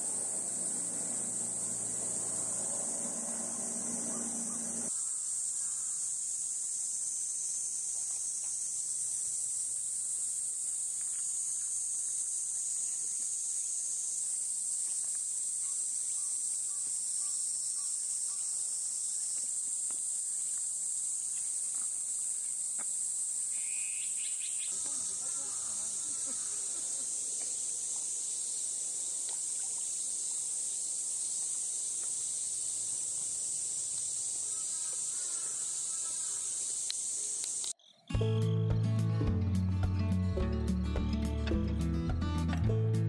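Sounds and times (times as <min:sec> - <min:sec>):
insects shrilling: 0:00.0 - 0:38.2.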